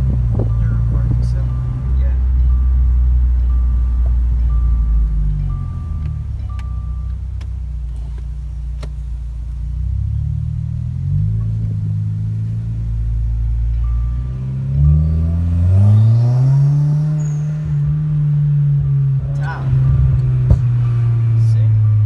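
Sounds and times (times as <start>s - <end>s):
car engine and exhaust: 0.0s - 22.0s.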